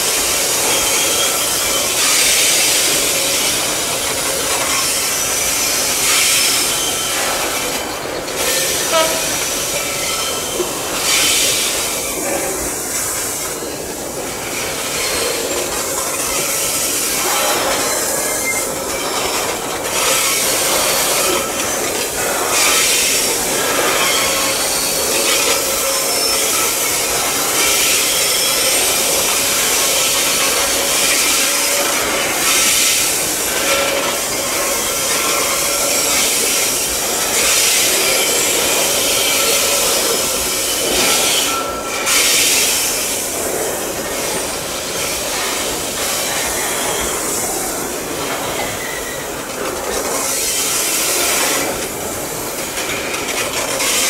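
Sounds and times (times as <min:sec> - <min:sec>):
steel wheels grinding on rails: 0:00.0 - 0:54.0
train wagons rolling past: 0:00.0 - 0:54.0.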